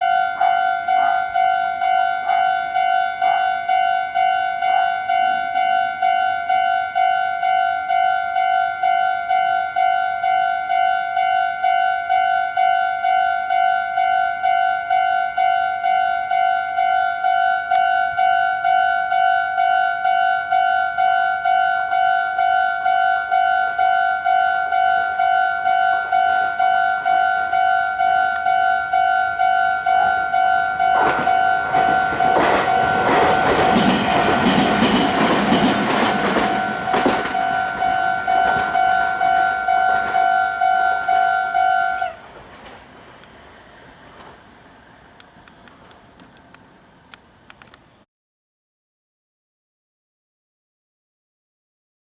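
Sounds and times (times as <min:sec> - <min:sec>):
level-crossing warning bell: 0:00.0 - 0:47.5.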